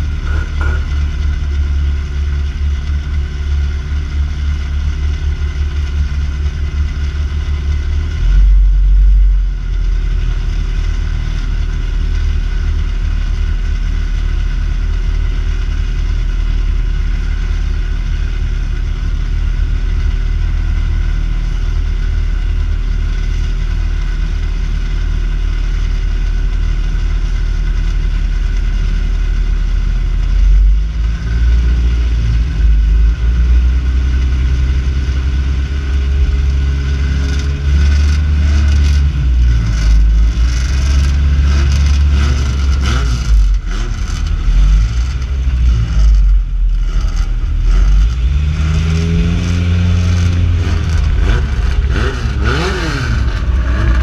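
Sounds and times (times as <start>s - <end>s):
car engine accelerating: 0.0s - 24.1s, 30.0s - 54.0s.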